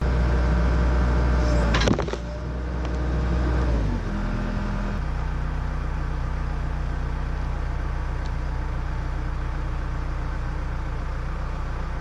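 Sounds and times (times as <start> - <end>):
backhoe diesel engine working: 0.0 - 12.0.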